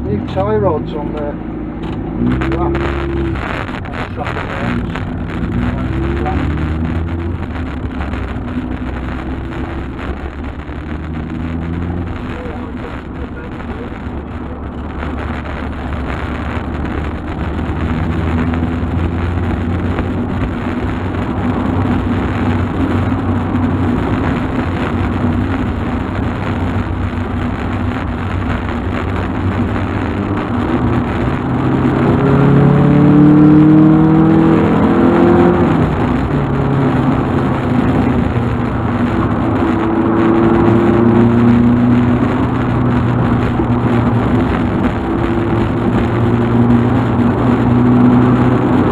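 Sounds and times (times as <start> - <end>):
car engine: 0.0 - 48.9
road noise: 0.0 - 48.9.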